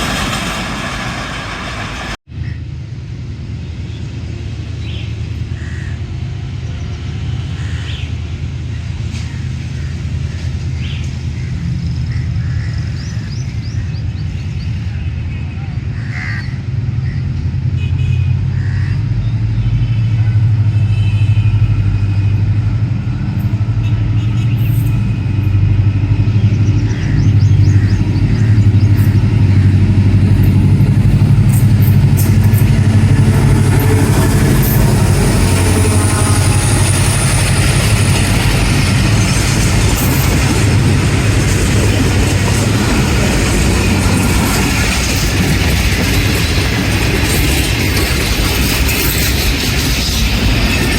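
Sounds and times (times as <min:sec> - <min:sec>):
diesel locomotive engine drone: 0:00.0 - 0:50.9
train rumbling on rails: 0:00.0 - 0:50.9.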